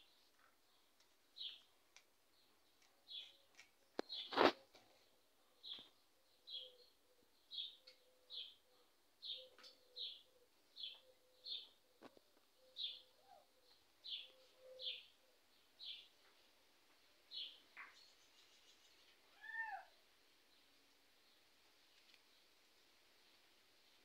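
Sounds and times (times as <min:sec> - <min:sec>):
small bird chirping faintly: 0:00.0 - 0:24.0.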